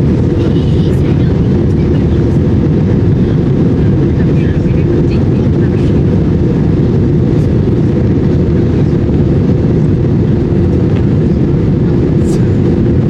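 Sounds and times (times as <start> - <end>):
jet engines and rushing air: 0.0 - 13.0
steady hum: 0.0 - 13.0.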